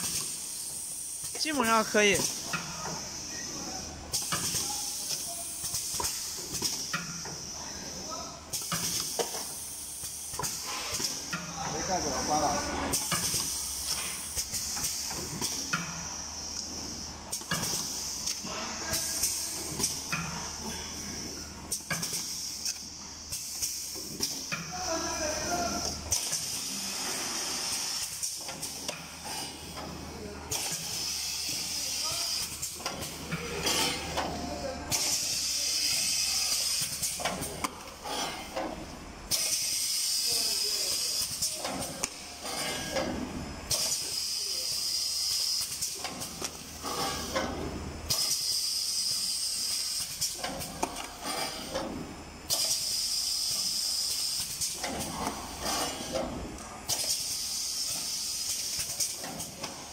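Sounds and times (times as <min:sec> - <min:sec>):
machine hissing: 0:00.0 - 0:59.9.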